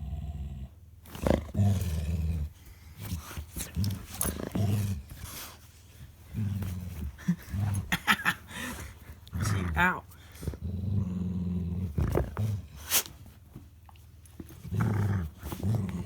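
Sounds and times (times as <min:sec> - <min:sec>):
dog growling playfully: 0:00.0 - 0:13.0, 0:14.5 - 0:16.0.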